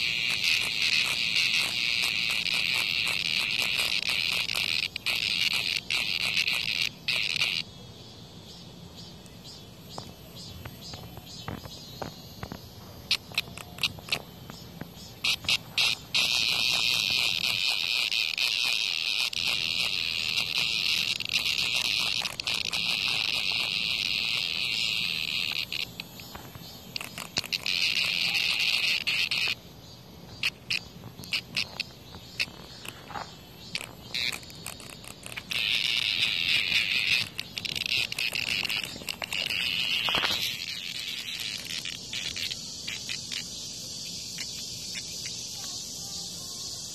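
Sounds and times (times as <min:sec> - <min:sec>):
cicada distress buzz: 0:00.0 - 0:46.9.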